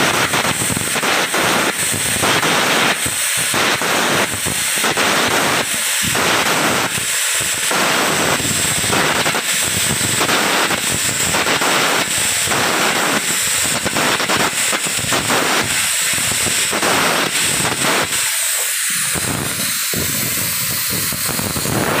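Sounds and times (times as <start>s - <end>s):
arc welding crackling sizzle: 0.0s - 22.0s.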